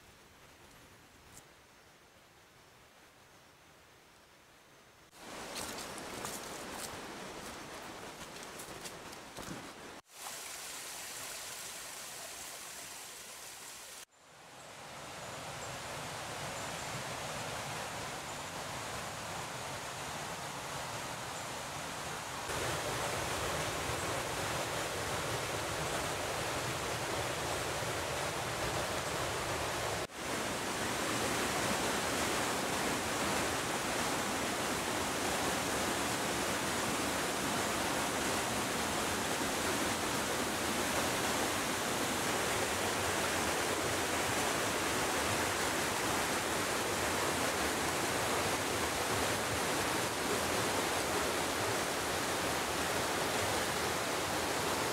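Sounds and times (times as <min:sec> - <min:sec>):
creek flowing over rocks: 0:05.1 - 0:14.1, 0:14.9 - 0:54.9.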